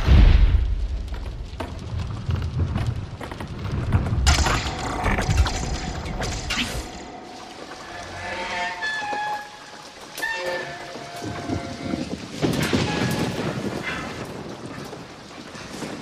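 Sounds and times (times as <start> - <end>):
steady rain: 0.0 - 16.0
sharp creaks and cracks: 0.6 - 16.0.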